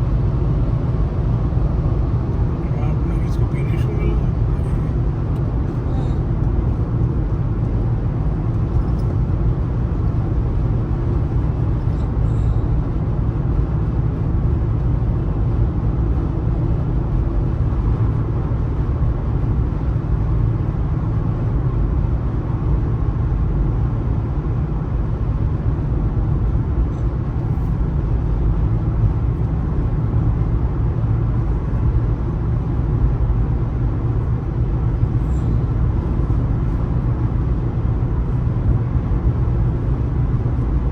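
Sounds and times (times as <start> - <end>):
car road noise on highway: 0.0 - 40.9.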